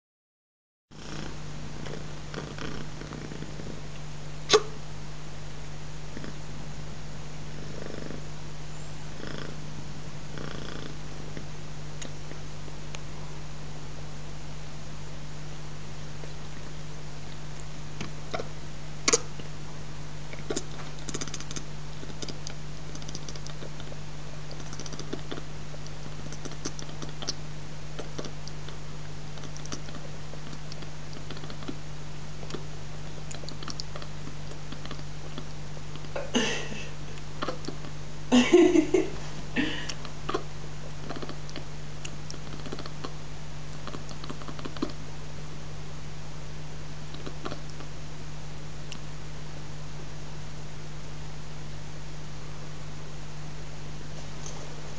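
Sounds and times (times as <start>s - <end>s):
steady low hum: 0.9s - 54.9s.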